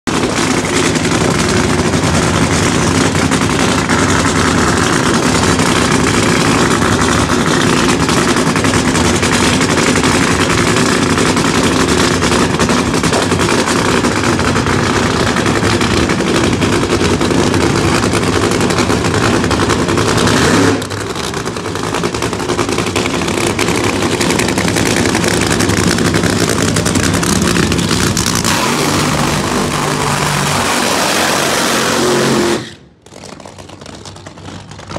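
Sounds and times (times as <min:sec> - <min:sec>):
drag racing engines idling loudly: 0:00.0 - 0:34.9.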